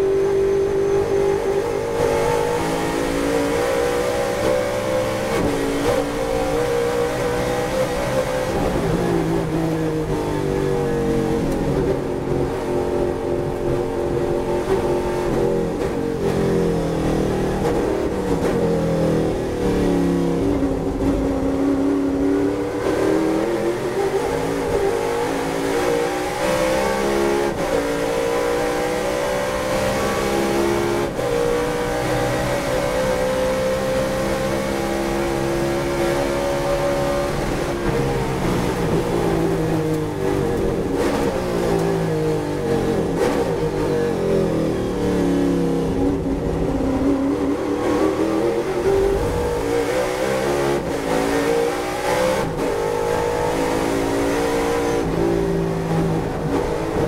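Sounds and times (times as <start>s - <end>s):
racing car engine revving: 0.0s - 57.0s.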